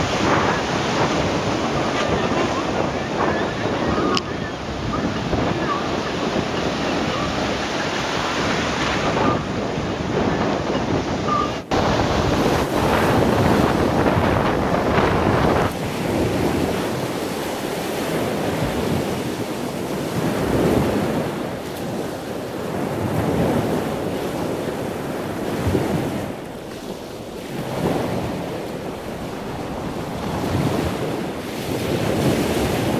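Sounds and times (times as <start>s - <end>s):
surf breaking on shore: 0.0s - 32.9s
wind buffeting microphone: 0.0s - 32.9s.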